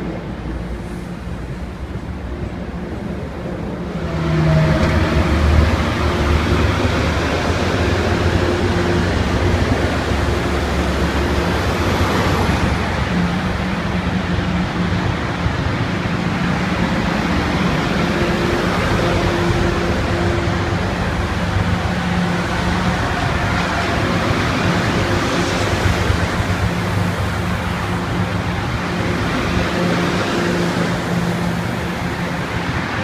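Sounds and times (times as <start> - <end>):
diesel locomotive engine hum: 0.0 - 33.0
highway traffic: 0.0 - 33.0
passing train coaches: 0.0 - 33.0.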